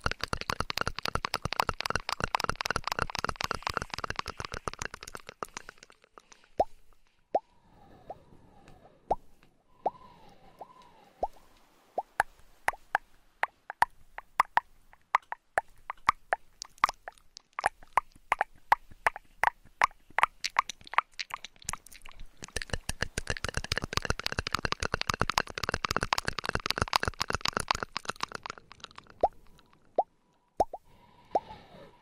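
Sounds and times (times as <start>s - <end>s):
sharp pops and plops: 0.0s - 7.5s, 9.1s - 10.0s, 10.6s - 11.4s, 12.0s - 31.5s.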